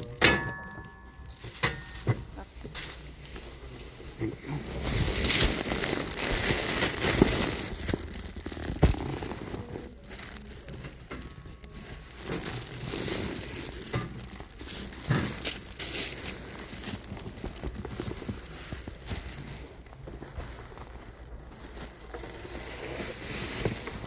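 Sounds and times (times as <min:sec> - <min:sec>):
crinkling and rustling: 0:00.0 - 0:24.0.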